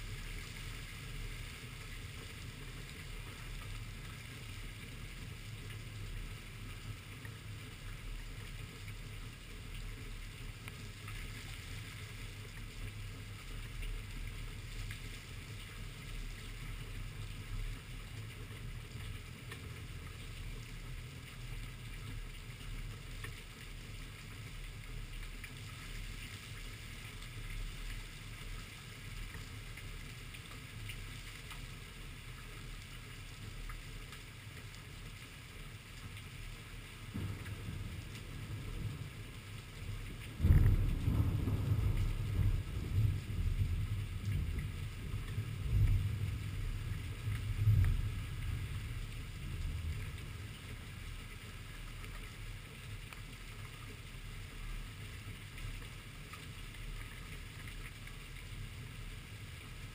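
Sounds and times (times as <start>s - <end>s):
low steady rumble: 0.0s - 59.9s
raindrops ticking: 0.0s - 59.9s.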